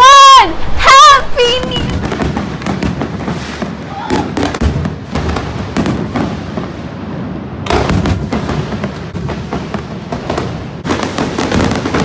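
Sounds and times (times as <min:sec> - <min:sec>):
fireworks crackling and popping: 0:01.4 - 0:12.0
heavy firework bangs: 0:01.4 - 0:12.0.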